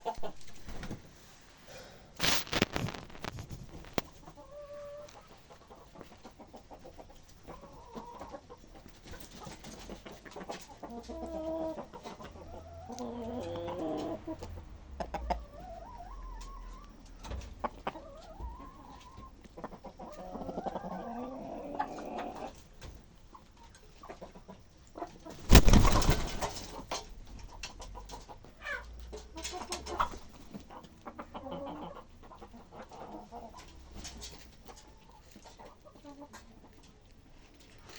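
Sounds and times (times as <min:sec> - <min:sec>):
chickens clucking: 0:00.0 - 0:01.0, 0:03.0 - 0:37.9.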